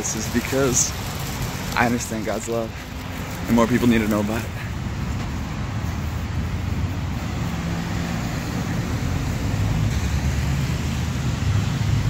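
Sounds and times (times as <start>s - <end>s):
cars driving on a wet road: 0.0s - 12.0s.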